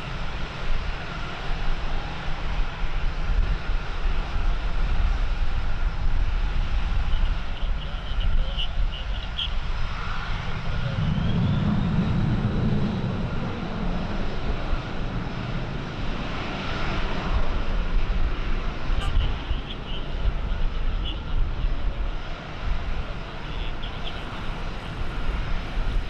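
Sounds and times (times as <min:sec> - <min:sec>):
aircraft engine running: 0:00.0 - 0:26.0
wind rumbling on microphone: 0:00.0 - 0:26.0.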